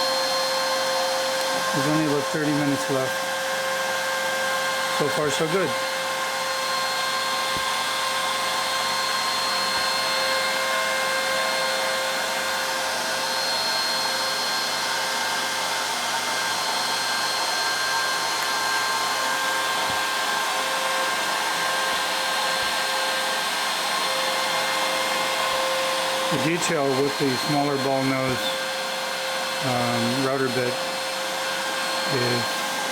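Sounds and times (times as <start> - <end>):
router spindle whining: 0.0 - 32.9.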